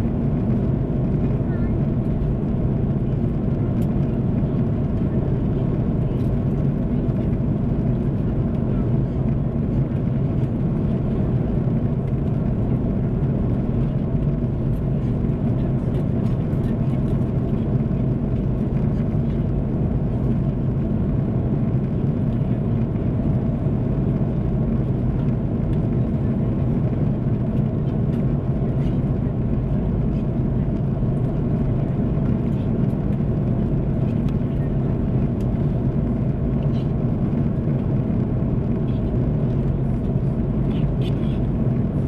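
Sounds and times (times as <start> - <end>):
aircraft engines rumbling: 0.0 - 42.0.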